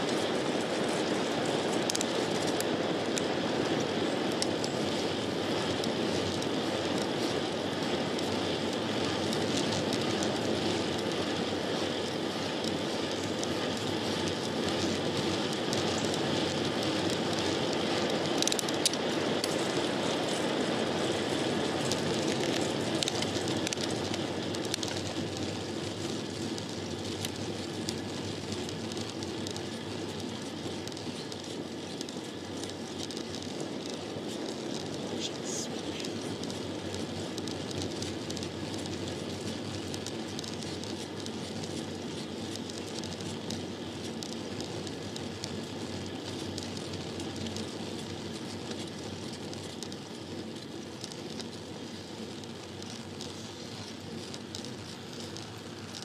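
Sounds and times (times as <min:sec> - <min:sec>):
sharp clicks and ticks: 0:00.0 - 0:11.3, 0:12.0 - 0:56.0
bicycle tyre noise on road: 0:00.0 - 0:56.0.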